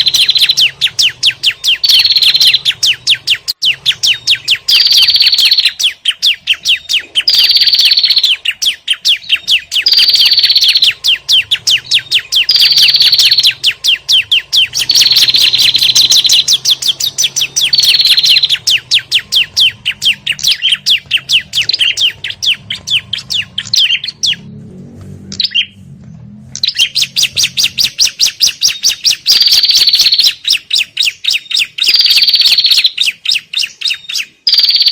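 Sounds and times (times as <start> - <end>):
recorded bird chatter: 0.0 - 24.5, 25.3 - 25.8, 26.6 - 34.9.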